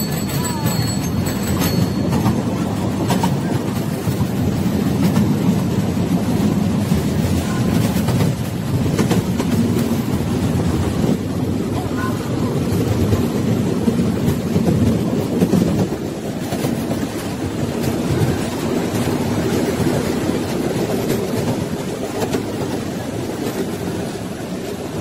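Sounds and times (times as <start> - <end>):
train rumbling on rails: 0.0 - 25.0
wheels clicking over track: 0.0 - 25.0.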